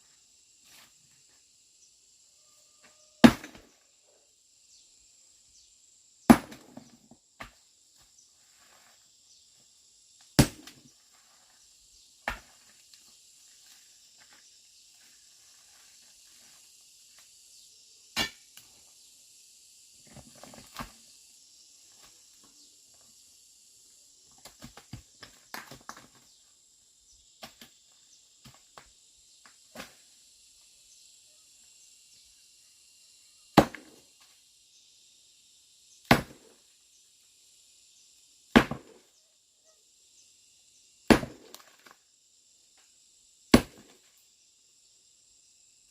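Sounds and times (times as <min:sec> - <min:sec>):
insects buzzing: 0:00.0 - 0:45.9.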